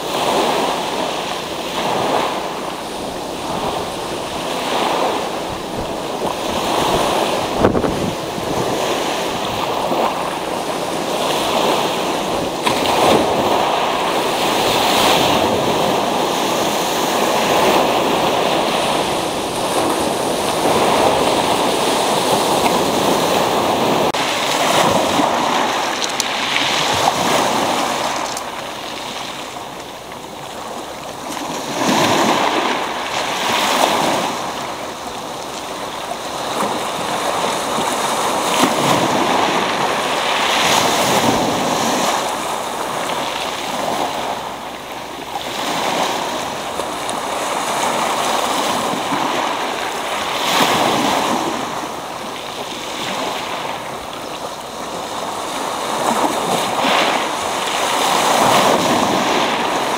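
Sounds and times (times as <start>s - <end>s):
waves breaking on pebble beach: 0.0s - 59.9s.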